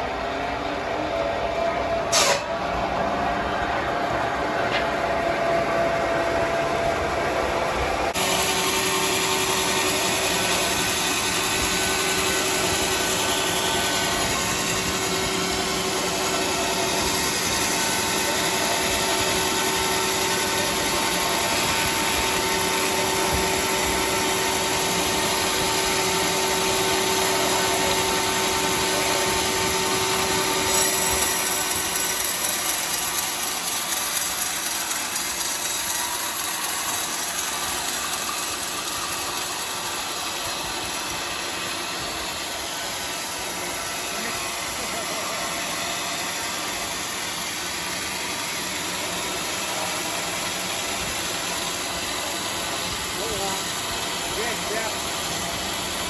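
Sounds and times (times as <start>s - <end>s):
machine running hum: 0.0s - 56.0s
band sawmill sawing log: 4.2s - 56.0s.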